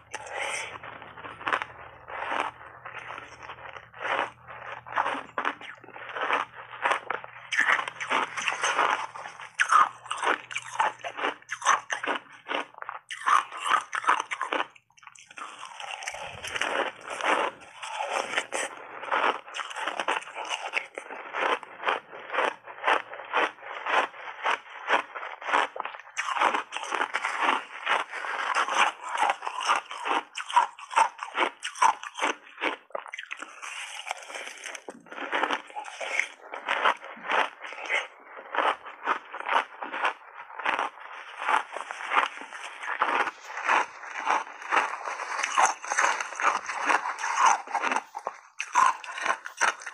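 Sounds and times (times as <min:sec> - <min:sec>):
ice crunching while chewing: 0:00.0 - 0:49.9.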